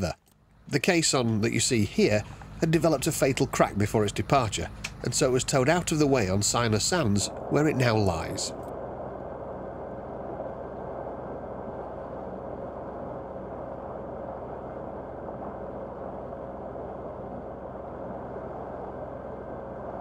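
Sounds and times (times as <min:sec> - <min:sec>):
boat engine running: 0:00.0 - 0:20.0
steady rushing noise: 0:00.6 - 0:20.0.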